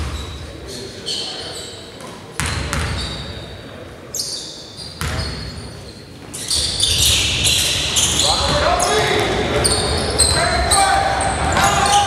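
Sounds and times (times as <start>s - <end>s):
sneaker squeaks on court: 0.0s - 3.5s, 4.1s - 10.4s.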